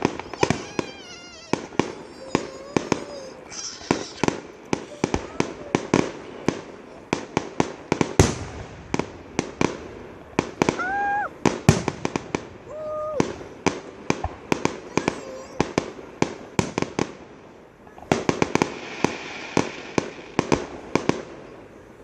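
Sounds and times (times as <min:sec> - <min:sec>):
fireworks cracking and popping: 0:00.0 - 0:21.8.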